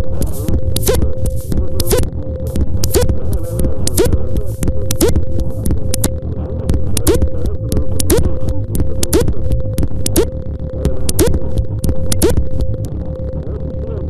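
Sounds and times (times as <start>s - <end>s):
sharp clicks and knocks: 0.0s - 12.9s
steady hum: 0.0s - 14.0s.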